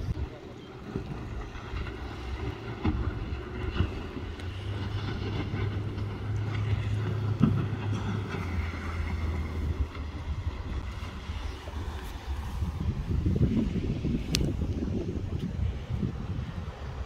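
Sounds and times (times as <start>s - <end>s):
vehicle engine droning under load: 0.0s - 17.0s.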